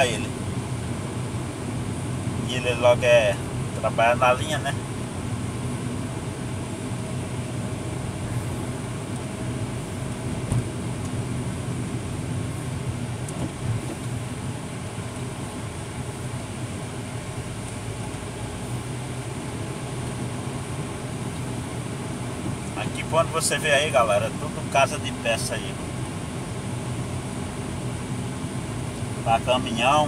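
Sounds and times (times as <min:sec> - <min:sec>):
road noise: 0:00.0 - 0:30.0
truck engine hum: 0:00.0 - 0:30.0.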